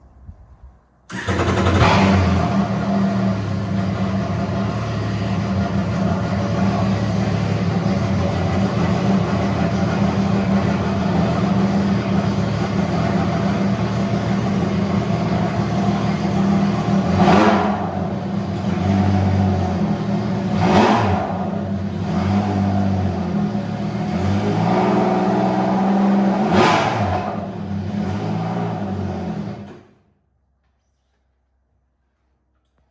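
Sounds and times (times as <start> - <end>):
engine throttle blips: 1.1 - 29.8
engine idling through exhaust: 1.1 - 30.0.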